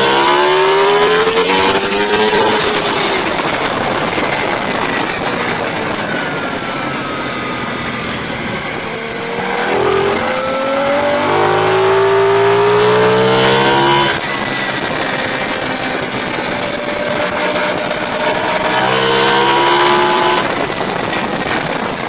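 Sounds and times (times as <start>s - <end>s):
racing motorcycle engines: 0.0s - 22.0s
wind rush: 0.0s - 22.0s.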